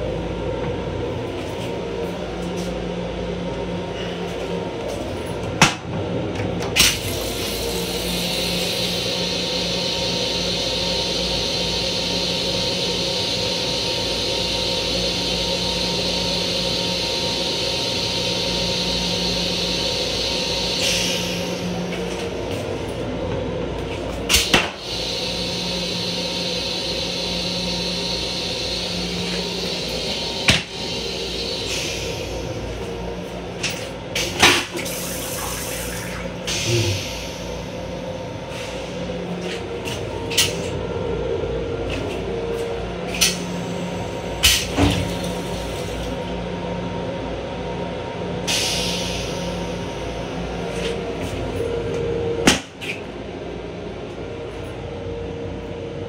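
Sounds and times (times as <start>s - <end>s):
railcar steady hum: 0.0s - 56.0s.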